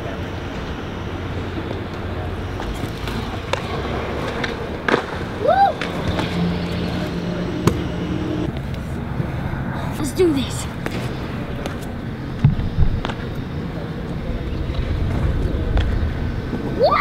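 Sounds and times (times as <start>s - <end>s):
scooter wheels rolling on concrete: 1.4s - 9.4s, 10.8s - 17.0s.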